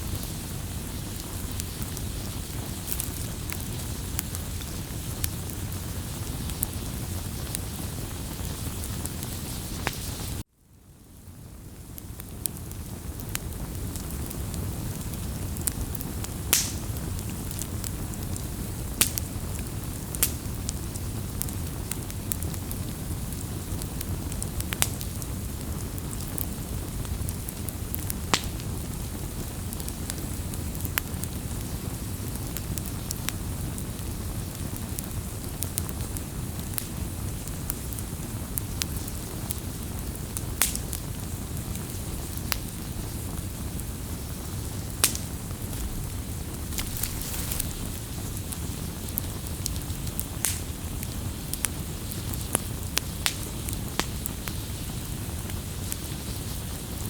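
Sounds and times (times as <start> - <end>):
campfire flames rushing: 0.0 - 10.4, 11.6 - 57.0
wood crackling and popping: 0.0 - 10.4, 11.7 - 57.0.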